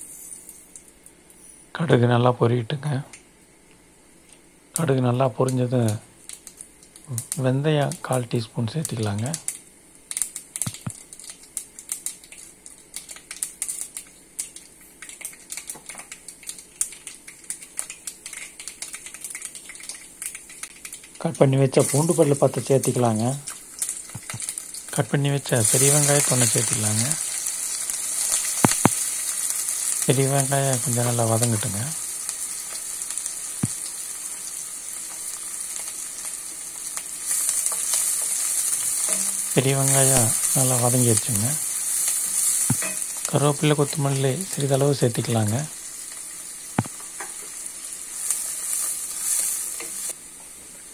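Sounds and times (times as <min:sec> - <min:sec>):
seeds crackling in hot oil: 0:04.2 - 0:50.9.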